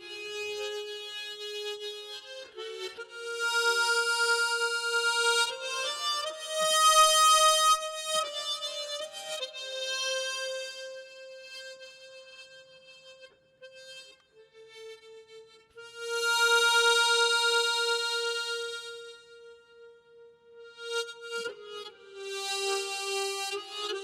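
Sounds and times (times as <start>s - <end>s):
harmonica playing slow melody: 0.0s - 24.0s.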